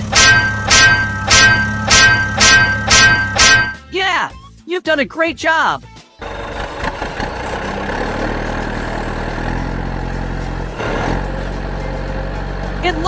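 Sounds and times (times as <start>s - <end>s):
vehicle engine running: 0.0s - 3.8s, 6.2s - 13.0s.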